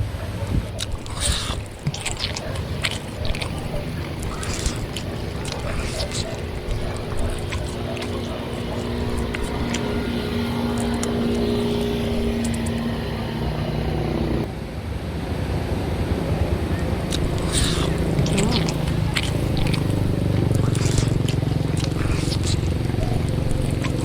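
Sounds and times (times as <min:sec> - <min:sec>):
motor hum: 0:00.7 - 0:14.5, 0:16.9 - 0:24.0.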